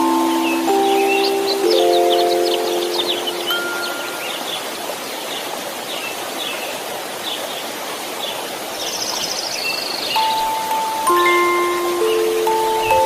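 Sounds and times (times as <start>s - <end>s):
rushing stream: 0.0s - 13.0s
small birds chirping: 0.0s - 13.0s.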